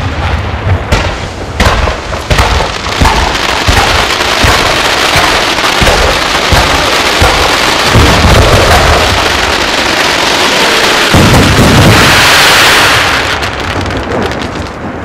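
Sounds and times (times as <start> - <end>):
firework bangs: 0.0 - 15.0
fireworks crackling: 0.0 - 15.0.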